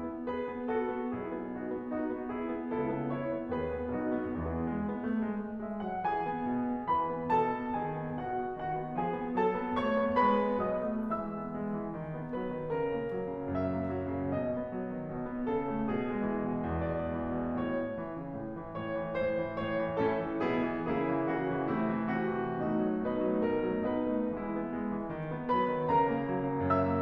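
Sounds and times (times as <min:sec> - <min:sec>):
solo classical piano: 0:00.0 - 0:27.0.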